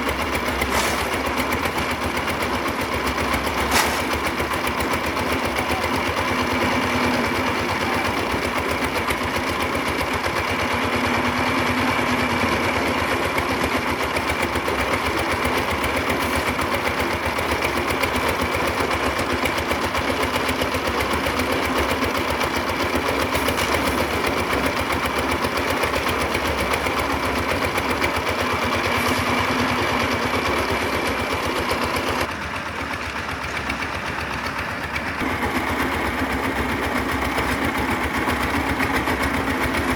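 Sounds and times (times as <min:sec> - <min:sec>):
small engine chattering: 0:00.0 - 0:39.9.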